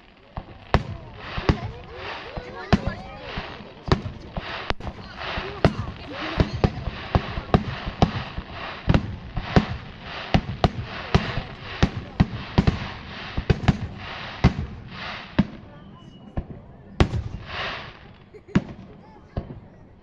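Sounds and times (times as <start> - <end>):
crackling hiss: 0.0 - 16.3, 17.0 - 19.0
fireworks bangs: 0.0 - 19.8.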